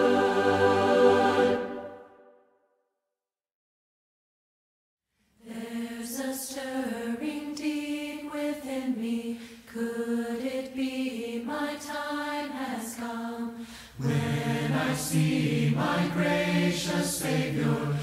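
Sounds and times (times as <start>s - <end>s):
unaccompanied voices singing hymn: 0.0s - 2.1s, 5.4s - 18.0s.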